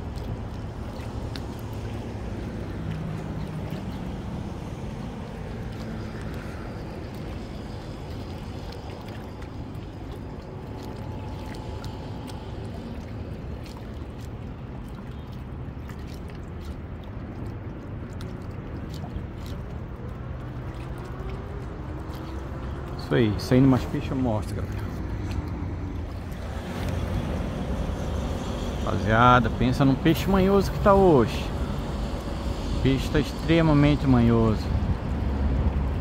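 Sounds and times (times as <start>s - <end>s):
low hum: 0.0s - 36.0s
seawater washing against rocks: 0.0s - 36.0s.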